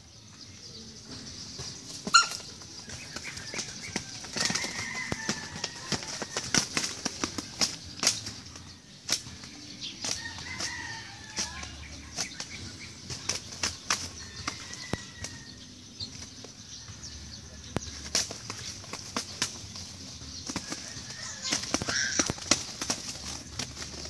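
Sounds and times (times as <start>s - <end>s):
wings flapping and slapping: 1.1s - 16.8s, 17.6s - 24.0s.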